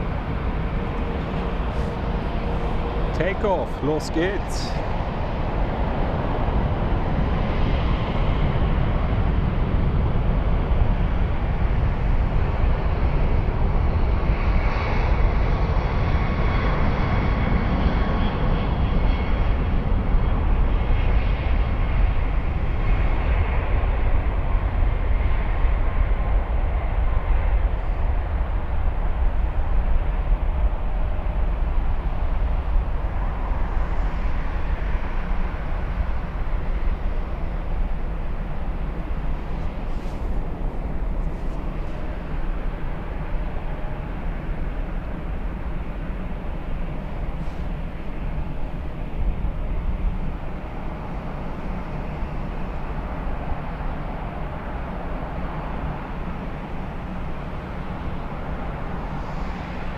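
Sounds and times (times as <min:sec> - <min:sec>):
jet engines roaring at takeoff: 0:00.0 - 0:59.9.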